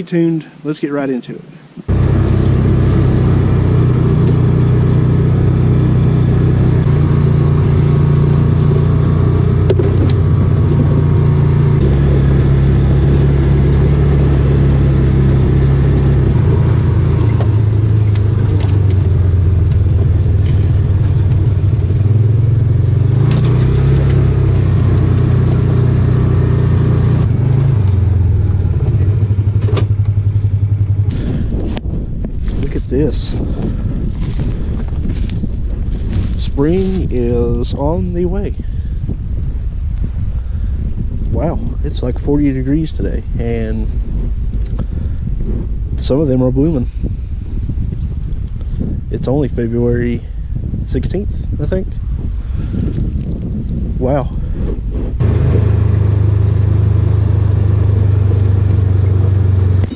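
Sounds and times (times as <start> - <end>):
off-road vehicle engine running: 1.9 - 59.9.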